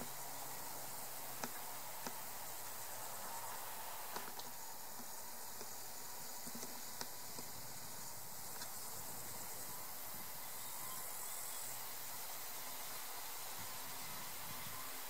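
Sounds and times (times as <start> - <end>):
insects chirring: 0.0 - 15.0
meadow ambience hiss: 0.0 - 15.0.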